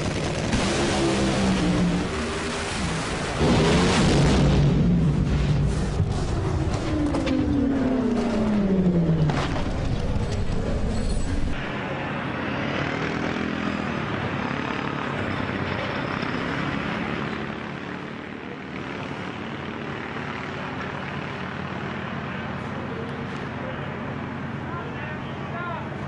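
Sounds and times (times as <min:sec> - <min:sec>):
heavy low engine rumble: 0:00.0 - 0:12.2, 0:17.0 - 0:26.0
wind and rolling noise: 0:00.0 - 0:26.0.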